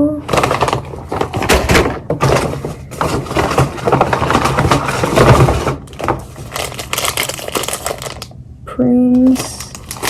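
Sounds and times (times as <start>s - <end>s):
packaging crinkling and rustling: 0.2s - 8.4s, 9.2s - 10.0s.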